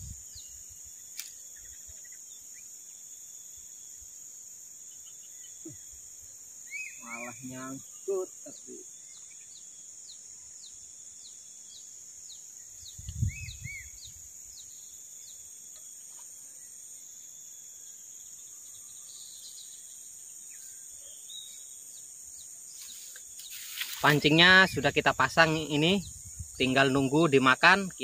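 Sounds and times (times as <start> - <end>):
bird chirping: 0.0 - 3.3, 4.8 - 27.0
high-pitched insect drone: 0.0 - 28.0.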